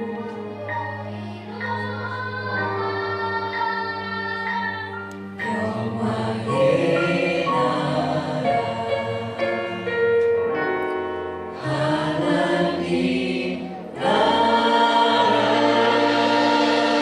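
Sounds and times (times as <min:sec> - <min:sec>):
choir singing worship song: 0:00.0 - 0:10.4, 0:11.4 - 0:17.0.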